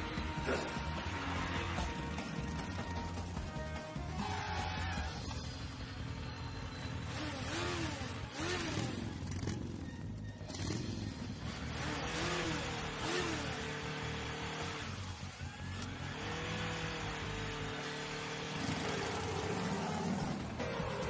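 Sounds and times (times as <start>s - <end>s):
background music: 0.0s - 21.0s
cartoon motorcycle engine revving: 4.1s - 21.0s.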